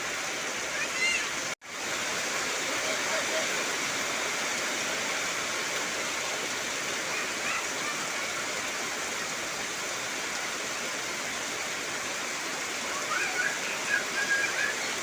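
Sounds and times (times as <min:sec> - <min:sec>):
heavy rain on trees: 0:00.0 - 0:15.0.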